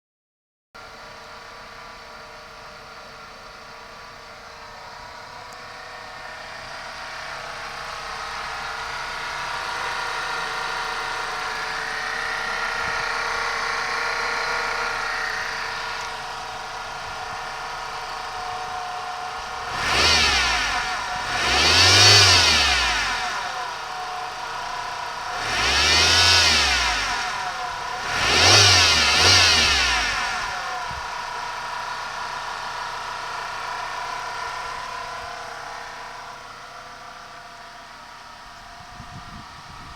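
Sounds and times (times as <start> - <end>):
car engine idling and revving: 0.8 - 39.9.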